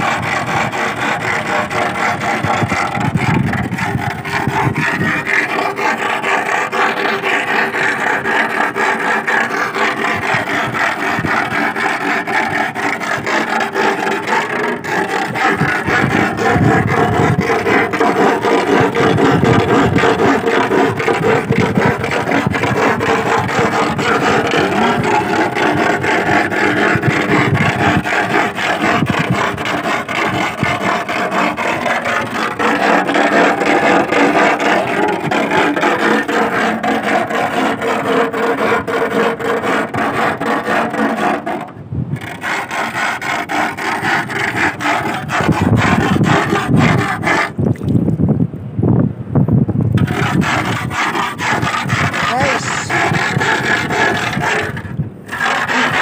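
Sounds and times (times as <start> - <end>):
iron rod rasping on iron stake: 0.0 - 47.8, 50.0 - 56.0.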